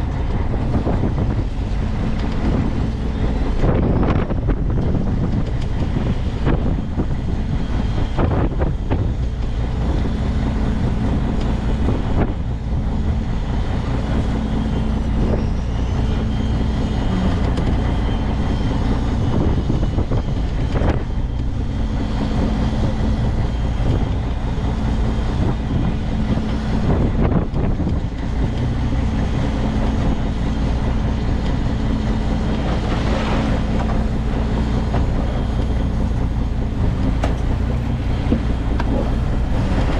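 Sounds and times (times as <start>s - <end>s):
boat engine running: 0.0s - 39.9s
wind on microphone: 0.0s - 39.9s.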